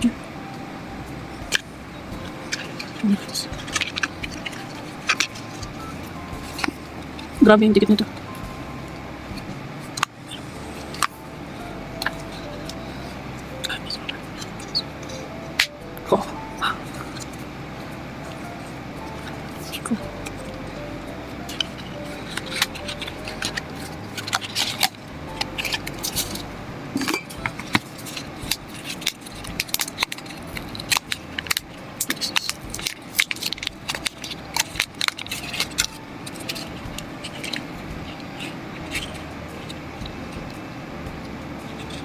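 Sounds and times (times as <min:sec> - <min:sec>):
packaging handled with clicks and rustles: 0:00.0 - 0:42.0.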